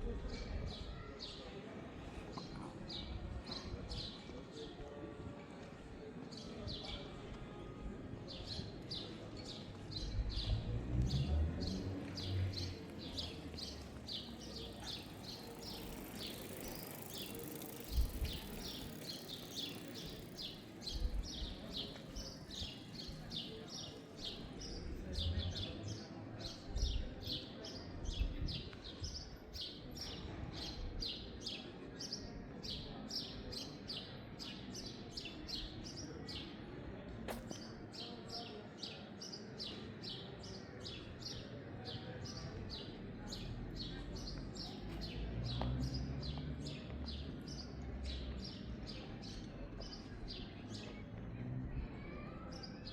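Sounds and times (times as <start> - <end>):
street ambience: 0.0 - 52.9.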